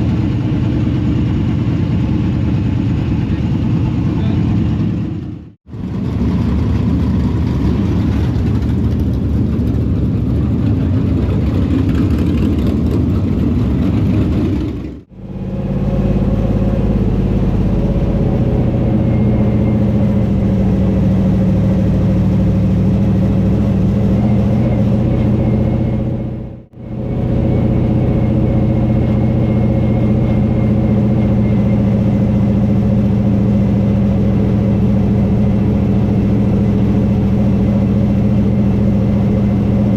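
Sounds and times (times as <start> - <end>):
race car engine running hard: 0.0 - 39.9
steady engine tone: 0.0 - 39.9.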